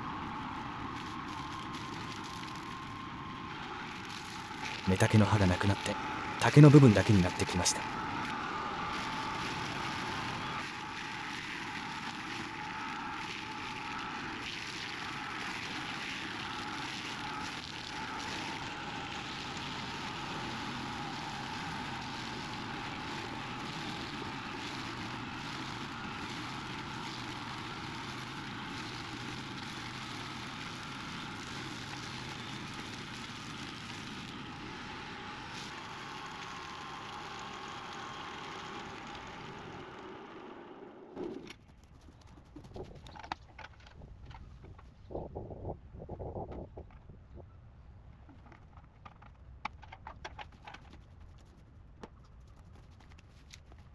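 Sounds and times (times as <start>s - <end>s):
mower engine running: 0.0s - 43.3s
rotor shredding bamboo: 0.0s - 44.8s
steady whine: 0.0s - 47.5s.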